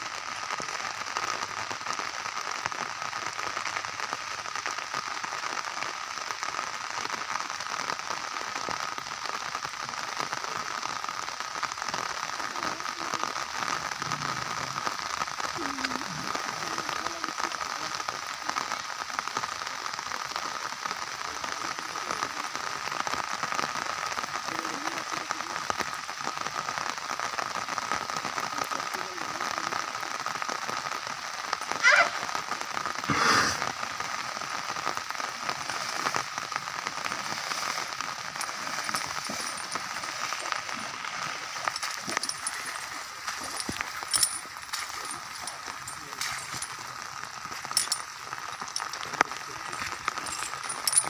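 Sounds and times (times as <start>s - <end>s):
heavy rain pattering: 0.0s - 51.0s.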